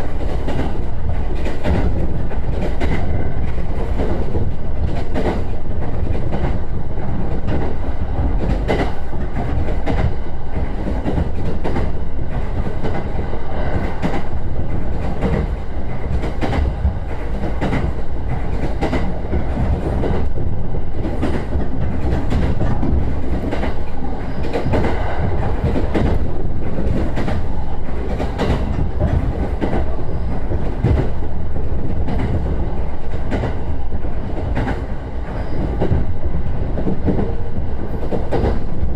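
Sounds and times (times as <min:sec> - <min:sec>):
electric train rumbling: 0:00.0 - 0:38.9.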